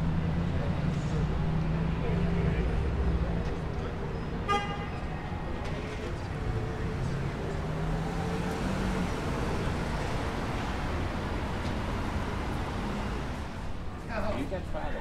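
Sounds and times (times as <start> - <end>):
vehicles running past: 0.0 - 15.0.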